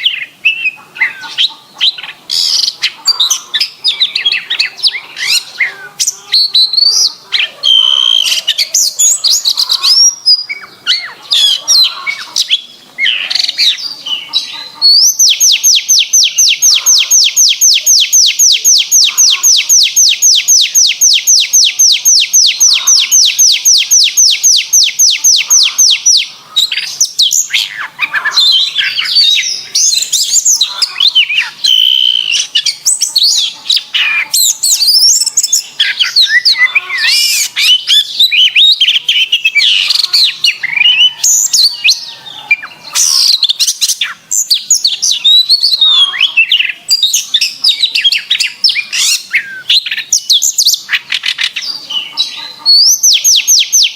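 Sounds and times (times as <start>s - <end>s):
canary singing: 0.0s - 53.9s.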